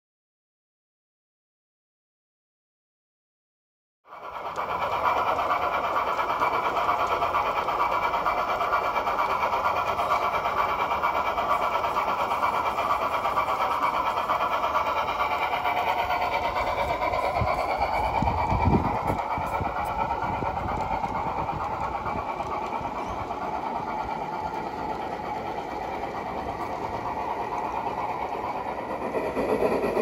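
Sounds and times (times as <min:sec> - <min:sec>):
model train wheels rolling on rails: 0:04.1 - 0:30.0.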